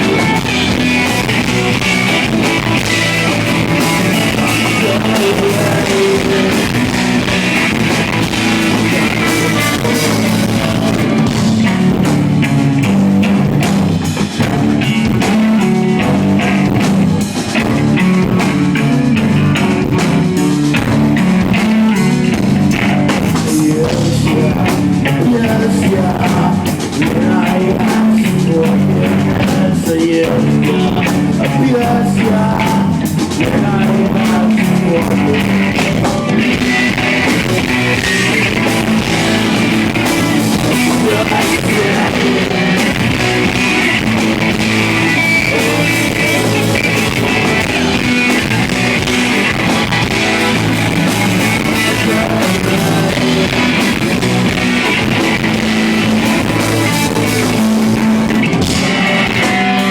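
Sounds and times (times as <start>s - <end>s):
person singing: 0.0s - 11.7s, 20.8s - 59.9s
distorted electric guitars: 0.0s - 59.9s
drum kit: 0.0s - 59.9s.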